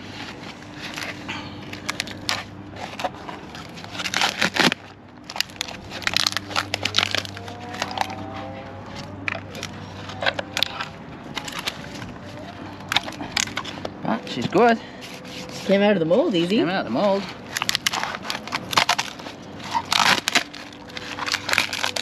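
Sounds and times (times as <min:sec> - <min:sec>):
fibreglass crackling and crunching: 0:00.0 - 0:22.0.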